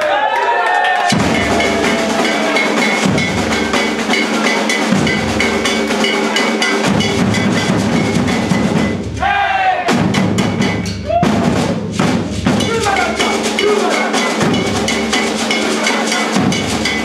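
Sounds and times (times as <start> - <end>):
percussion ensemble drumming: 0.8 - 17.0.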